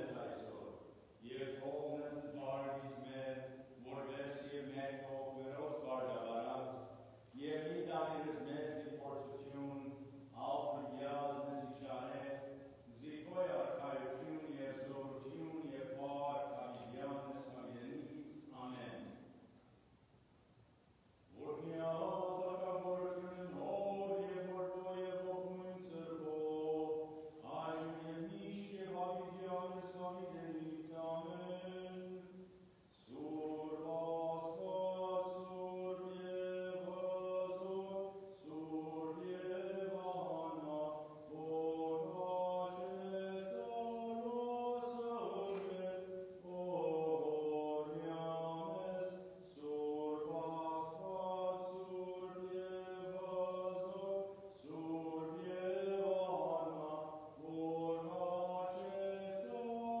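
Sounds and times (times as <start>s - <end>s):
liturgical chanting: 0.0s - 19.4s, 21.3s - 60.0s.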